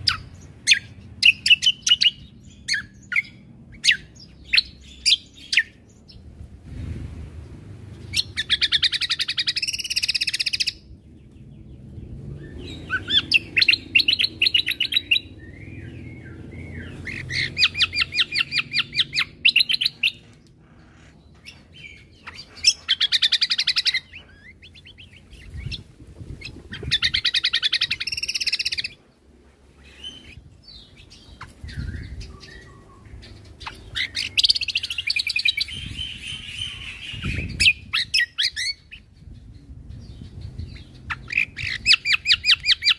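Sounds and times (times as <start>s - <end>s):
songbird chattering song: 0.0s - 6.6s, 7.3s - 42.9s.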